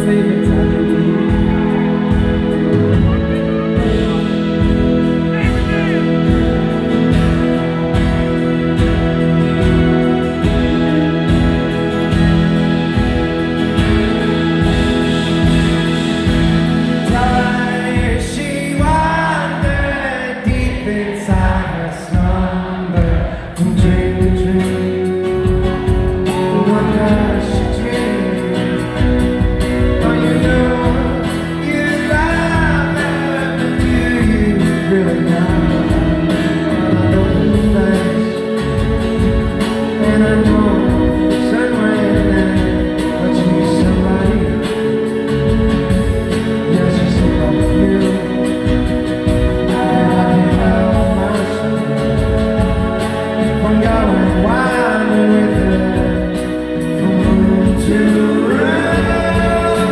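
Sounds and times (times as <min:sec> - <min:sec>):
live band playing: 0:00.0 - 0:59.9
man singing: 0:00.0 - 0:59.9.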